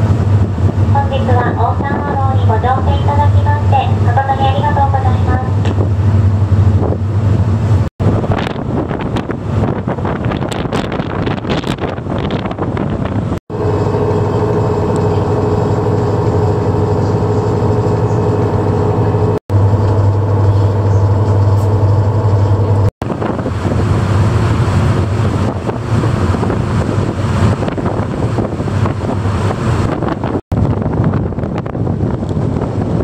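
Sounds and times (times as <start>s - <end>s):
wind on microphone: 0.0s - 19.4s, 20.2s - 33.0s
ferry engine drone: 0.0s - 33.0s
rush of boat wake: 0.0s - 33.0s.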